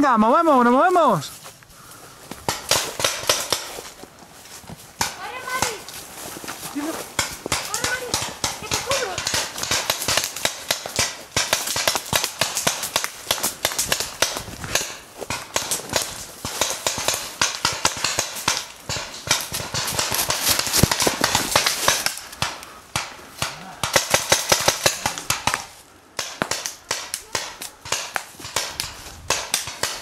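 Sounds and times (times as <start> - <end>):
paintball markers firing: 2.4 - 3.8, 7.1 - 30.0.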